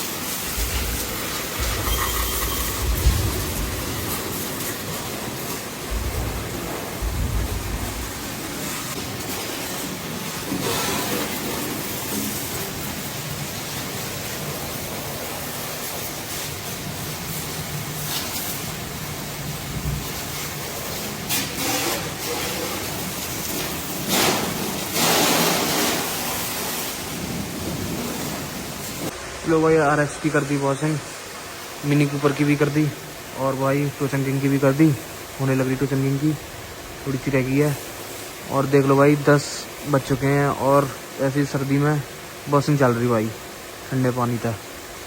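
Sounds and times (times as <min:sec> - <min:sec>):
water splashing: 0:00.0 - 0:36.4
hose spraying water: 0:00.0 - 0:45.0.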